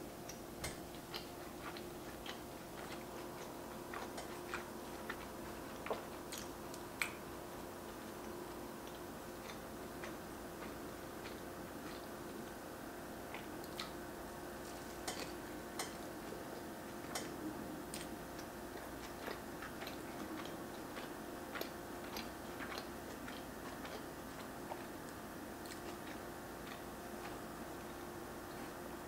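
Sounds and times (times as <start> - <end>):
faint steady hum: 0.0 - 29.0
person chewing food: 0.0 - 29.0.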